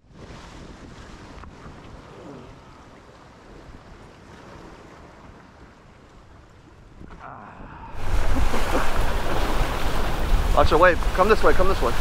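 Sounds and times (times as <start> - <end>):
sea surf washing against rocks: 0.0 - 12.0
wind buffeting microphone: 0.0 - 12.0.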